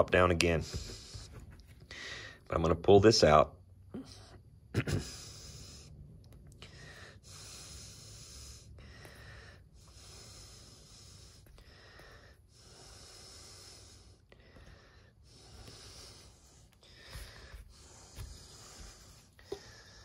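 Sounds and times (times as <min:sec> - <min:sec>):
person breathing: 0:00.6 - 0:02.5, 0:04.0 - 0:20.0.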